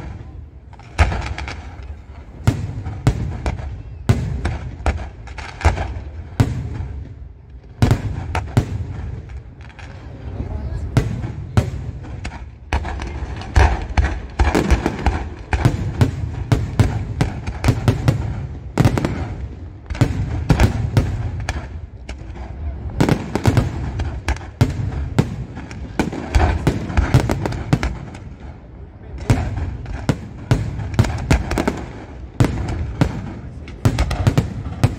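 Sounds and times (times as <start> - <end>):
continuous low rumble: 0.0 - 34.9
fireworks crackling and banging: 0.0 - 34.9.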